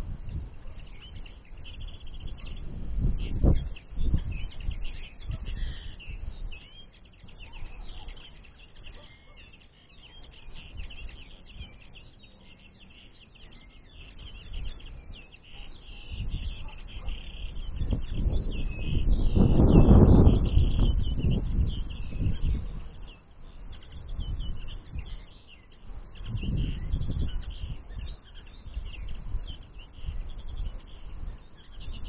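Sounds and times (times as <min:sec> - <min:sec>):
linnets twittering: 0:00.0 - 0:32.0.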